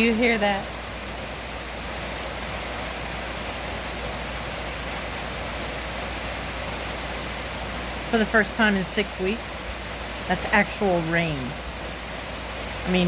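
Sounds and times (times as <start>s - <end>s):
heavy rain on a tin roof: 0.0s - 13.0s.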